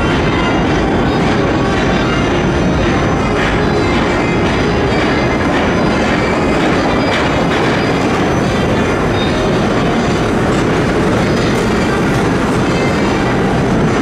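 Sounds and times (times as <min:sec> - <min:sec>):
train wheels rumbling on rails: 0:00.0 - 0:14.0
wheels clacking over rail joints: 0:00.0 - 0:14.0.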